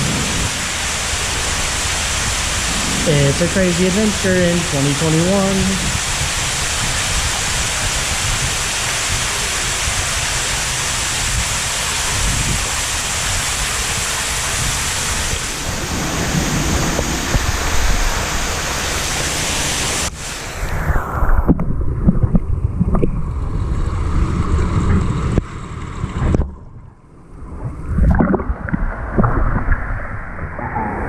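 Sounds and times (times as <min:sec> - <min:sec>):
wind gusting on microphone: 0:00.0 - 0:26.6, 0:27.4 - 0:31.0
water splashing: 0:00.0 - 0:31.0.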